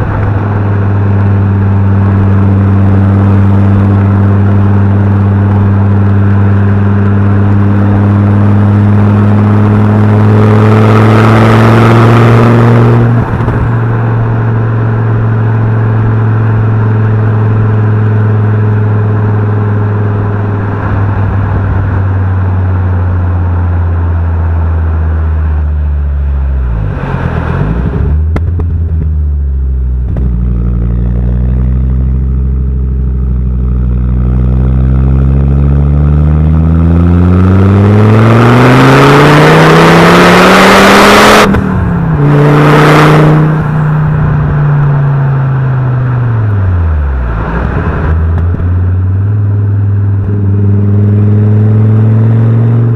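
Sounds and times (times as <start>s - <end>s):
car engine and exhaust accelerating: 0.0s - 52.9s.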